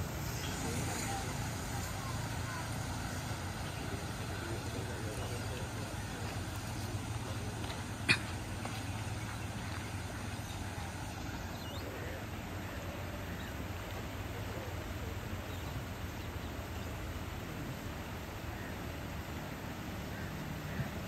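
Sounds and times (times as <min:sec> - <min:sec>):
even hiss: 0:00.0 - 0:21.0.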